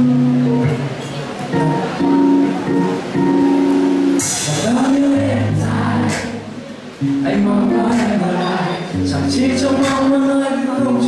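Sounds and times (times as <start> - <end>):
live band playing: 0.0 - 11.0.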